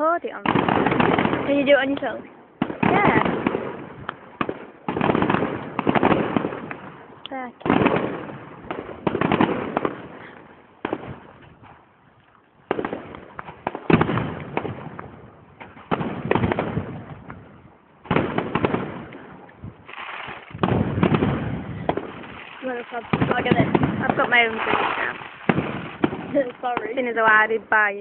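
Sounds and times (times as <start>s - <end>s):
firework bangs with crackling: 0.4s - 11.8s, 12.6s - 28.0s.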